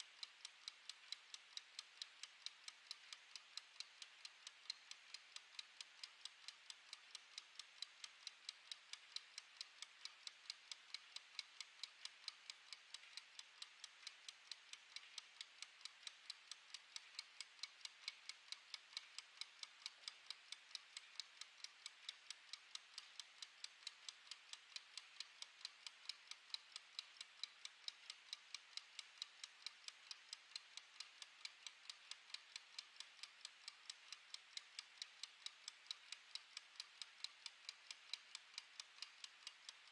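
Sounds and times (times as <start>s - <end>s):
kitchen timer ticking: 0.0s - 39.9s.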